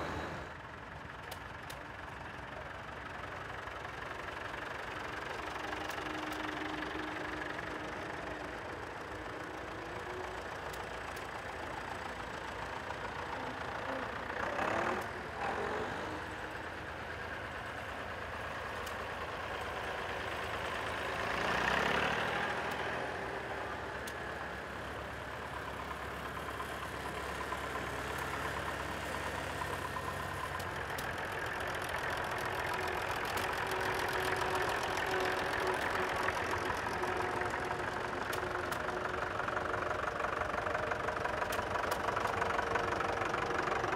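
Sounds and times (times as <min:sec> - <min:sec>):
tractor engines idling: 0:00.0 - 0:43.9.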